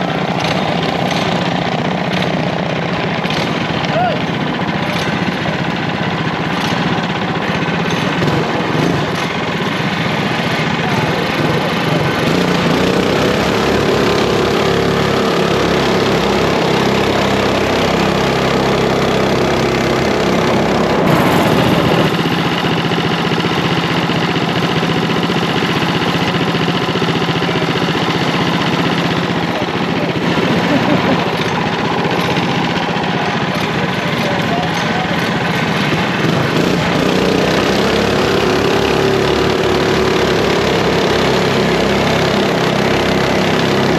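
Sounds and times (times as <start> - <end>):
mini bike engines revving: 0.0 - 43.9.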